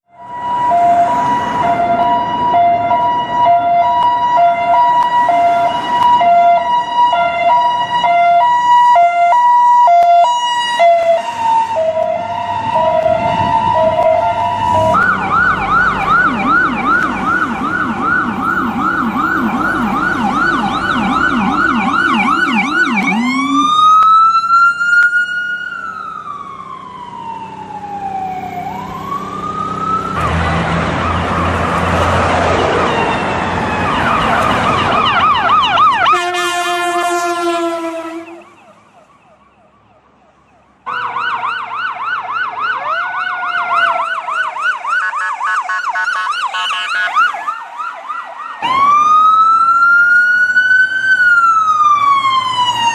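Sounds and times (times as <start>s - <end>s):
ambulance siren: 0.0s - 52.9s.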